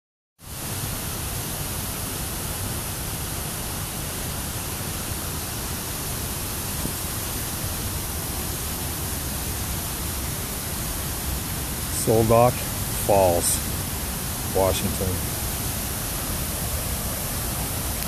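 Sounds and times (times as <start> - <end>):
white water rushing: 0.4 - 18.0.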